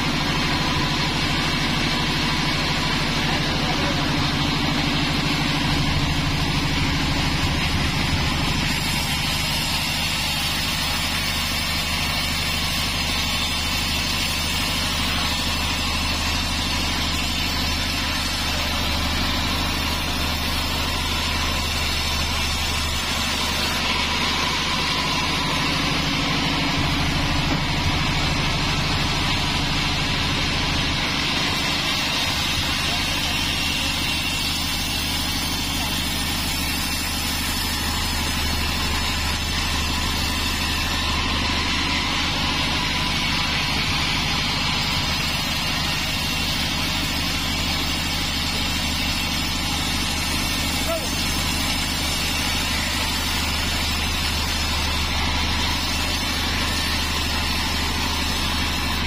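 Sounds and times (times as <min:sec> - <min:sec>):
band saw cutting log: 0:00.0 - 0:59.0
machine hum: 0:00.0 - 0:59.0.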